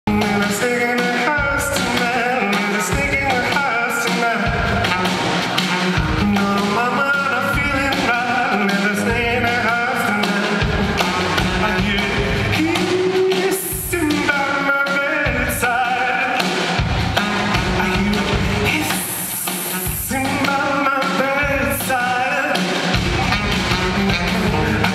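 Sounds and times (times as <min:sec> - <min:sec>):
person singing: 0:00.0 - 0:24.9
piano: 0:00.1 - 0:24.9.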